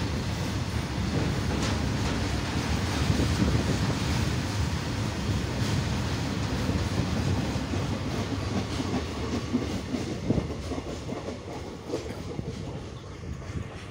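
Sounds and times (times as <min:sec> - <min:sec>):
wheels clacking over rail joints: 0:00.0 - 0:13.0
freight train rumbling: 0:00.0 - 0:13.9.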